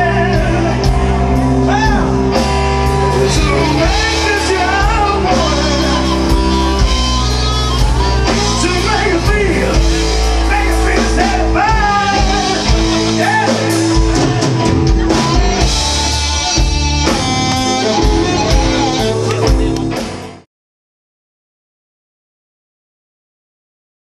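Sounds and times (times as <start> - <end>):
person singing: 0.0 - 20.4
live rock band playing: 0.0 - 20.5.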